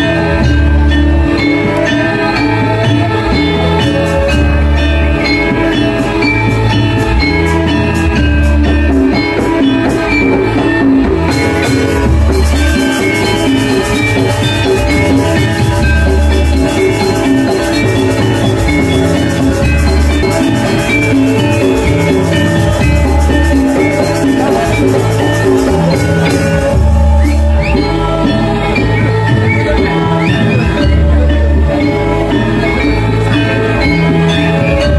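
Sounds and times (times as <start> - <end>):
gamelan struck metal notes: 0.0 - 34.9.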